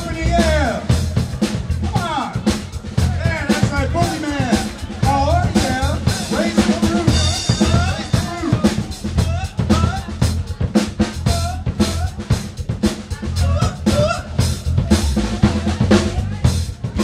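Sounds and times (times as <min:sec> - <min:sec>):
bass guitar: 0:00.0 - 0:17.0
drum kit beat: 0:00.0 - 0:17.0.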